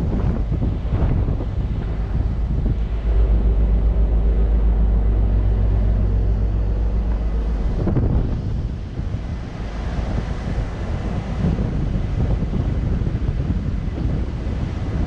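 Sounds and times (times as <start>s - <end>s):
ship machinery rumbling: 0.0s - 15.0s
wind buffeting microphone: 0.0s - 15.0s.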